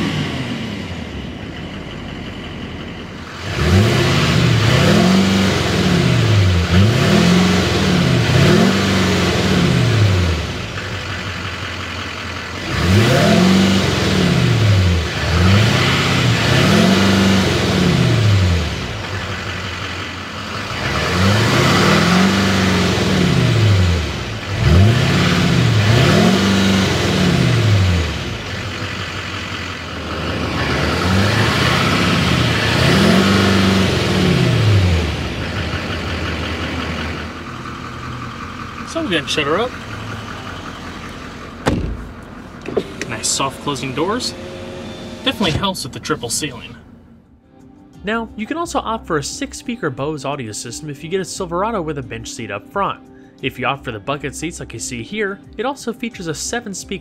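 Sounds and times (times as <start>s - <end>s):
diesel engine revving: 0.0s - 47.2s
engine idling: 0.0s - 47.4s.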